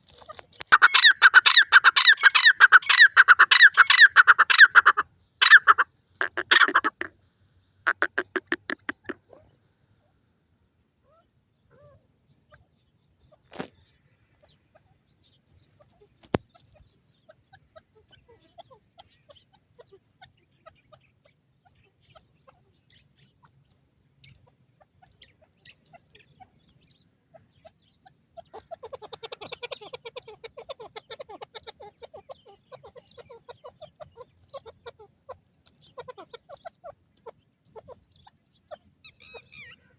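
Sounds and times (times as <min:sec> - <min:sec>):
francolin clucking calls: 0:00.0 - 0:07.2, 0:07.8 - 0:10.2, 0:11.0 - 0:39.9.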